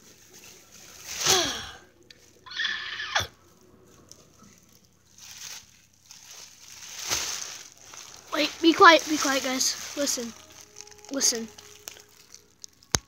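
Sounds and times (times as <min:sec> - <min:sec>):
bubble wrap crinkling: 0:00.0 - 0:13.0
bubble wrap snap: 0:00.9 - 0:02.4, 0:03.9 - 0:13.0.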